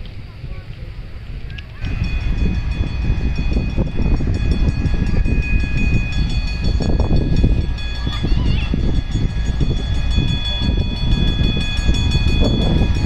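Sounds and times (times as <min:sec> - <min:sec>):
high-pitched whine: 0:00.0 - 0:13.0
train rumbling past: 0:00.0 - 0:13.0.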